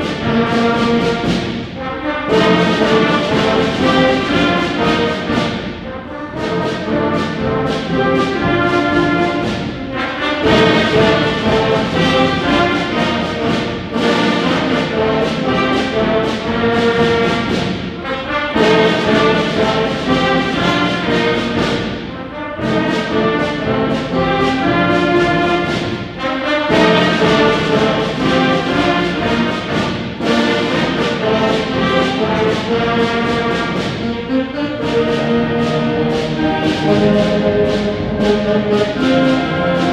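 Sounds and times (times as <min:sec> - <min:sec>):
instrumental ensemble playing slow piece: 0:00.0 - 0:39.9
sustained brass chords: 0:00.0 - 0:39.9.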